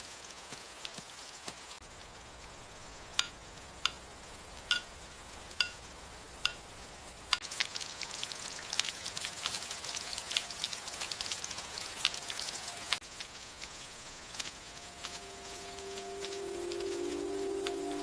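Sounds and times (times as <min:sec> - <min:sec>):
patter of rain drops: 0:00.0 - 0:18.0
rain hiss: 0:00.0 - 0:18.0.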